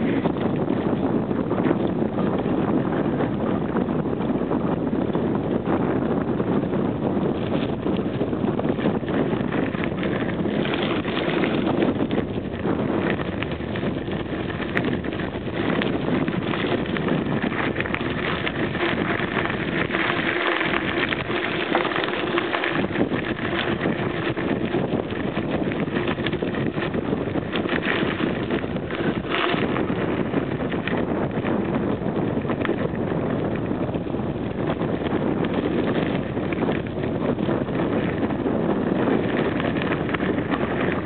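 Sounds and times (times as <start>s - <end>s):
wind buffeting microphone: 0.0s - 41.0s
tyres rolling on gravel: 7.2s - 41.0s.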